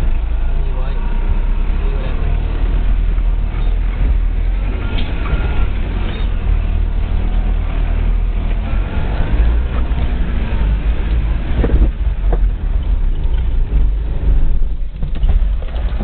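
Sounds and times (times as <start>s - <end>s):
off-road vehicle rumbling: 0.0s - 16.0s.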